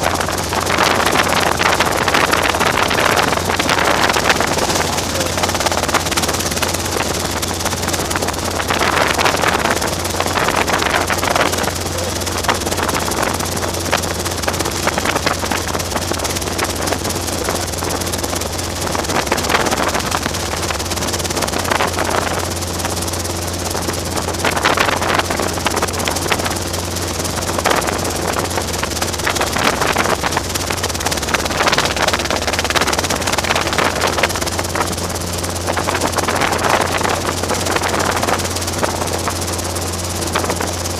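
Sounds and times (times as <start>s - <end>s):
continuous rushing noise: 0.0s - 40.9s
helicopter engine and rotor drone: 0.0s - 40.9s.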